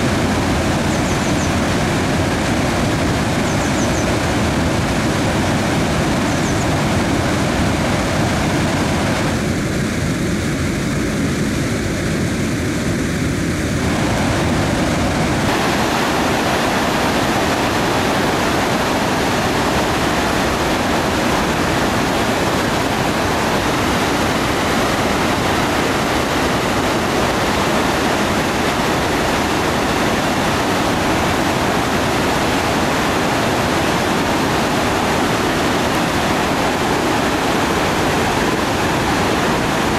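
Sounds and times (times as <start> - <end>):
water gushing from spillway: 0.0 - 39.9.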